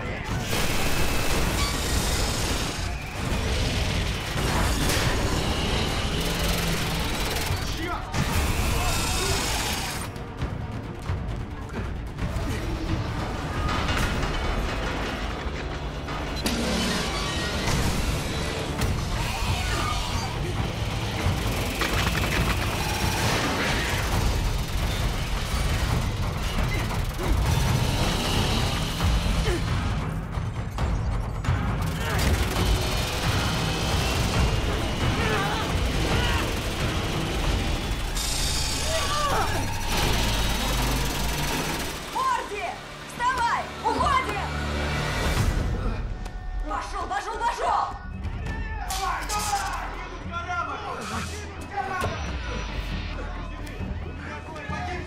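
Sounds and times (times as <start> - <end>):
film score: 0.0 - 55.0.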